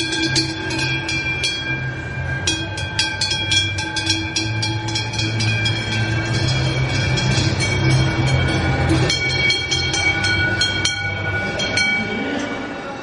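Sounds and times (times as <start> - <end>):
cowbell clanging: 0.0 - 12.6
low steady hum: 0.0 - 13.0.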